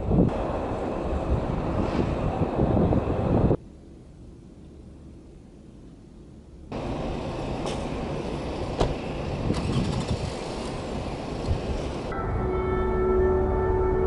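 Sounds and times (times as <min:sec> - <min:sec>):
vehicle running in traffic: 0:00.0 - 0:14.0.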